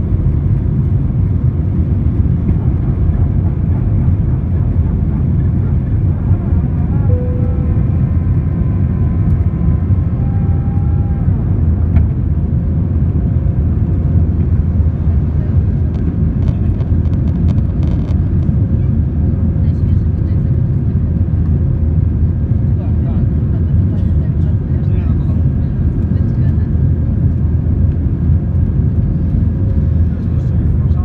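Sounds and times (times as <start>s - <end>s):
aircraft cabin engine rumble: 0.0s - 31.0s.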